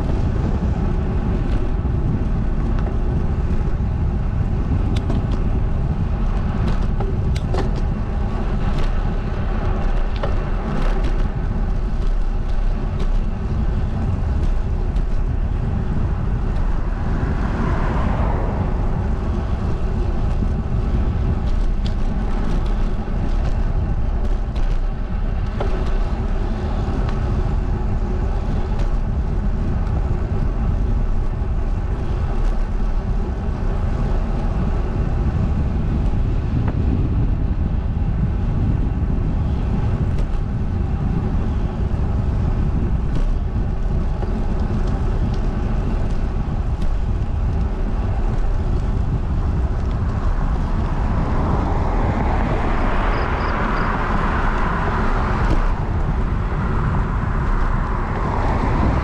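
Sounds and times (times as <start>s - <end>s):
road noise hum: 0.0s - 59.0s
wind rumbling on microphone: 0.0s - 59.0s.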